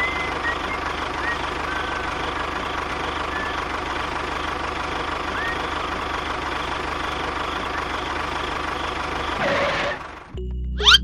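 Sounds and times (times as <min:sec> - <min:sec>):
tractor engine idling: 0:00.0 - 0:10.6.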